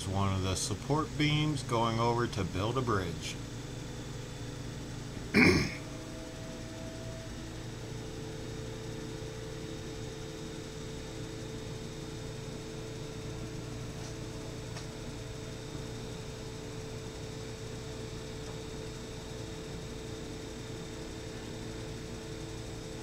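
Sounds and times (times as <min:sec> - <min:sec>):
machine hum with tones: 0:00.0 - 0:23.0.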